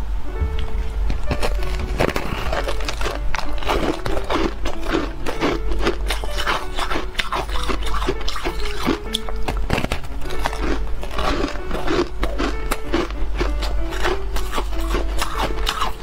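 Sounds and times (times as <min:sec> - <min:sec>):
faint music: 0:00.0 - 0:16.0
crunching and chewing ice: 0:01.1 - 0:16.0.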